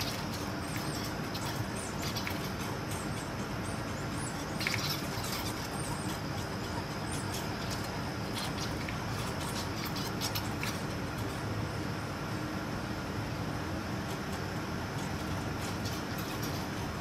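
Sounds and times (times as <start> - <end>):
squirrels rasping and clicking: 0.0 - 11.9, 13.6 - 17.0.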